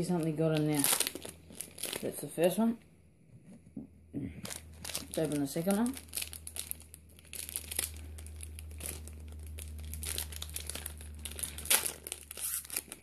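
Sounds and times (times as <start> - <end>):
plastic wrapper crinkling and tearing: 0.0 - 2.7, 4.4 - 13.0.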